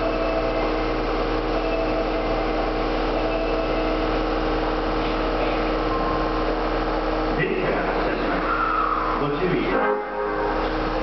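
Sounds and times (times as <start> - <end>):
subway train humming: 0.0 - 11.0.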